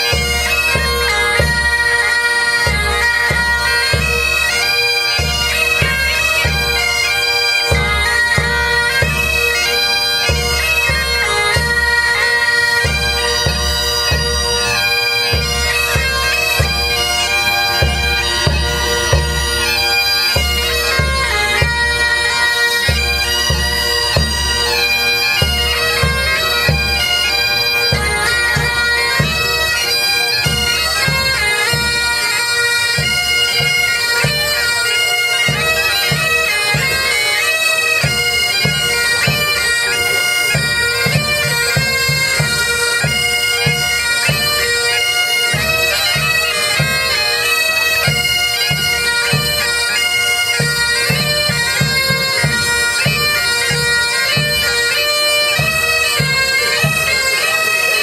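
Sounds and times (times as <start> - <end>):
bagpipes playing a tune: 0.0 - 58.0.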